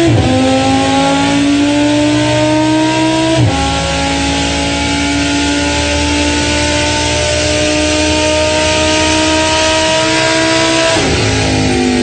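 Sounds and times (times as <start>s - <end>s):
racing engine at high revs: 0.0s - 12.0s.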